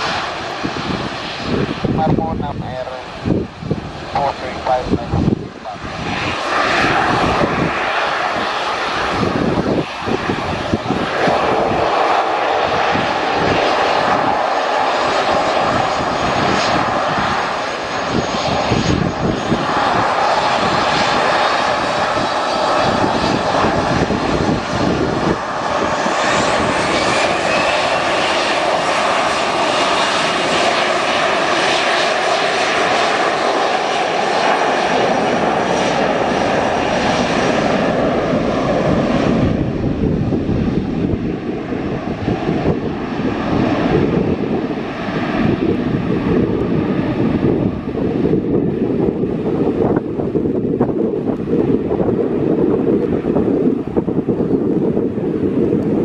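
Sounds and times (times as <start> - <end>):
faint engine whine: 0.0 - 51.7
jet engines running: 0.0 - 56.0.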